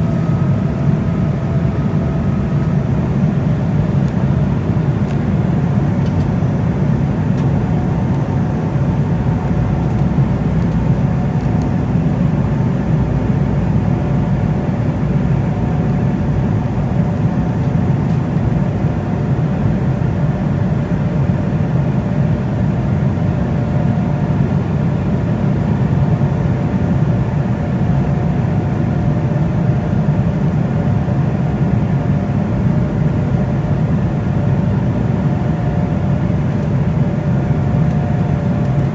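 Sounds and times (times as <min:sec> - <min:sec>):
jet cabin engine rumble: 0:00.0 - 0:38.9.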